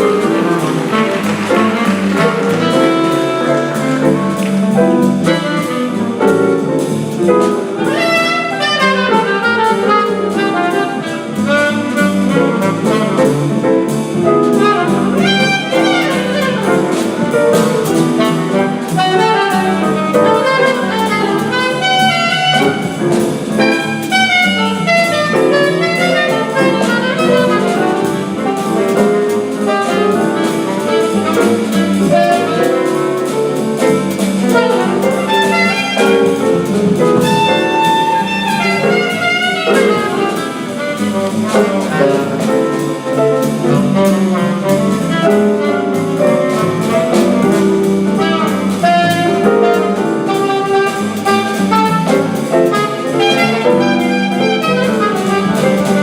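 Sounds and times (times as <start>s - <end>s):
saxophone line: 0.0s - 56.0s
small-group jazz playing: 0.0s - 56.0s.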